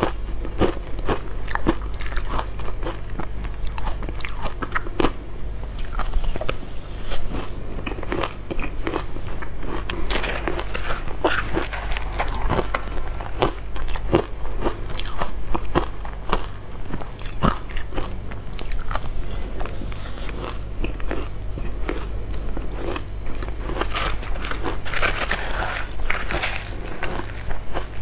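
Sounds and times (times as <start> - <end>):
ice crunching while chewed: 0.0 - 5.2, 5.8 - 28.0.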